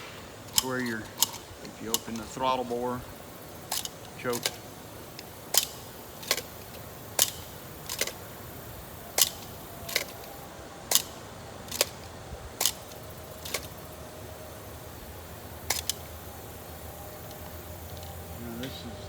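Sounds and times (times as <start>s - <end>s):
metal throttle linkage clicks: 0.4s - 14.0s, 15.6s - 18.8s.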